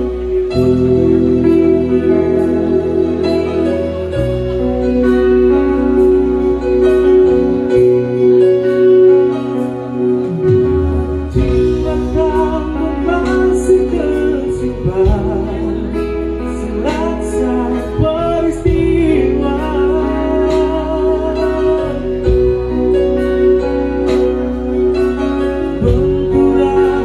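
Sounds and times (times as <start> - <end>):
band playing slow song: 0.0 - 27.0
person singing: 0.0 - 27.0.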